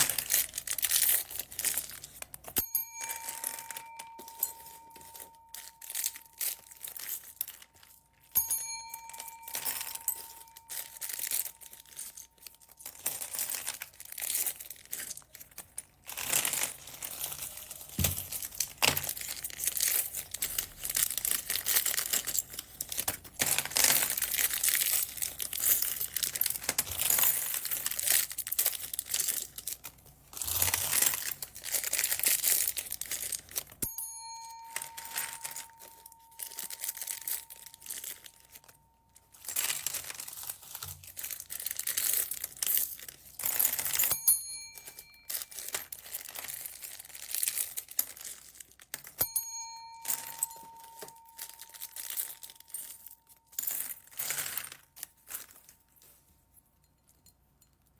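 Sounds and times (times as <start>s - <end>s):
plastic bags crinkling: 0.0s - 56.5s.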